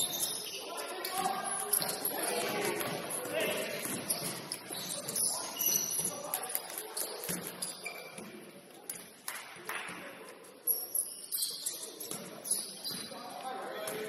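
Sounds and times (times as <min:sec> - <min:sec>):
sneakers squeaking on court: 0:00.0 - 0:09.1, 0:10.6 - 0:14.0.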